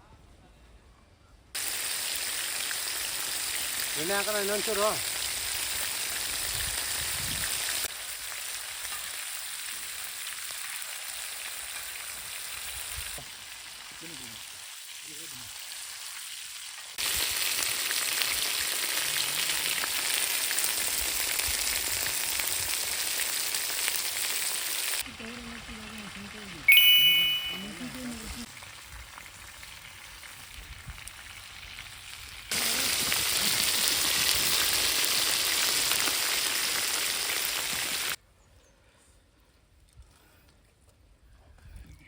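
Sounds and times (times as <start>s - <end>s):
chicken sizzling in oil: 1.6s - 27.5s, 28.2s - 38.2s.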